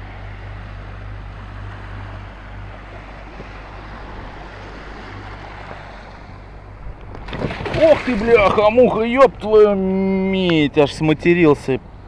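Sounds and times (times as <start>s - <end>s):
motorboat humming: 0.0s - 12.0s
moving water: 0.0s - 12.0s
wind: 0.0s - 12.0s.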